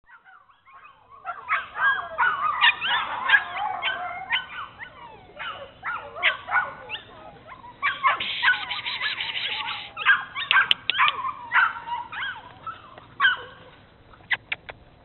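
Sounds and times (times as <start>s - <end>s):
puppies yipping and whining: 0.1s - 14.6s.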